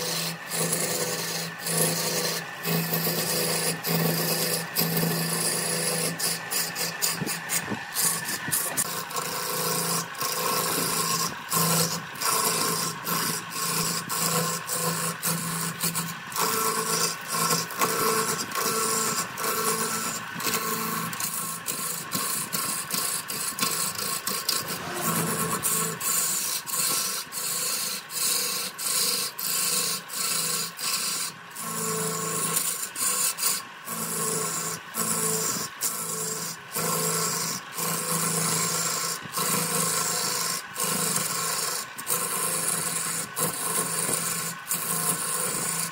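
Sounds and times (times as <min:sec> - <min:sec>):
faint lathe hum: 0:00.0 - 0:45.9
lathe tool scraping wood: 0:00.0 - 0:45.9.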